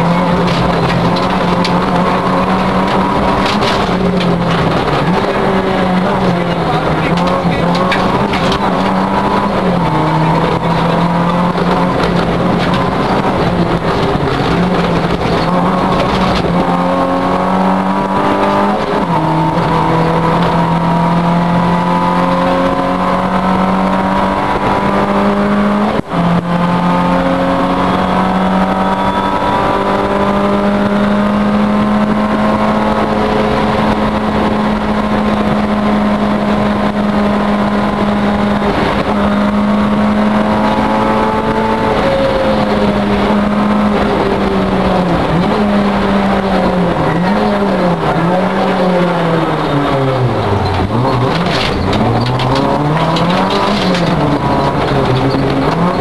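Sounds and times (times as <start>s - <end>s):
rally car engine high revs: 0.0s - 56.0s.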